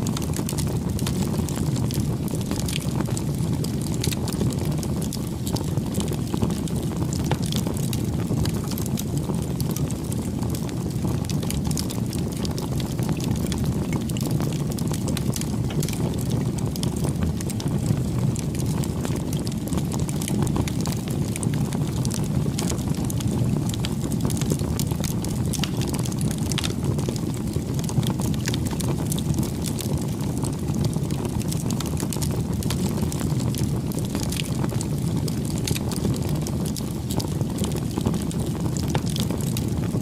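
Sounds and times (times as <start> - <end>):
bonfire flames rumbling: 0.0 - 40.0
fire crackles and pops: 0.0 - 40.0.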